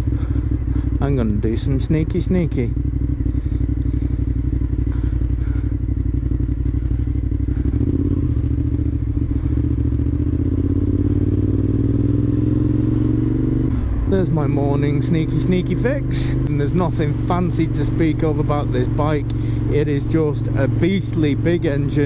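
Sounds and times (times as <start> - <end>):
motorcycle engine through loud exhaust: 0.0 - 22.0.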